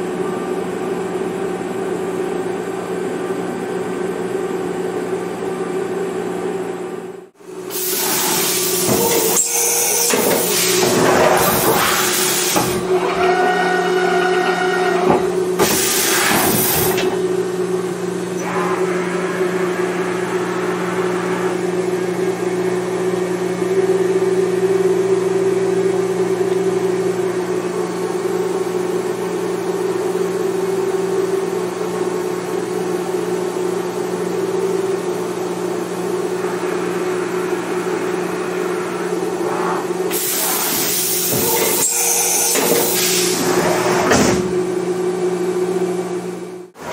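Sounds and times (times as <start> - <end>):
machine hum with hiss: 0.0 - 46.9.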